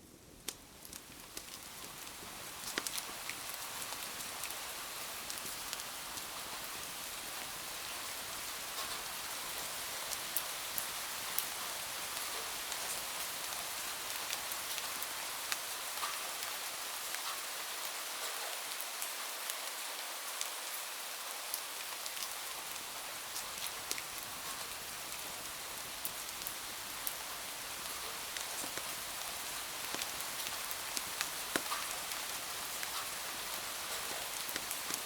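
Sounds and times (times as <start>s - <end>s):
rain hiss: 0.0s - 35.0s.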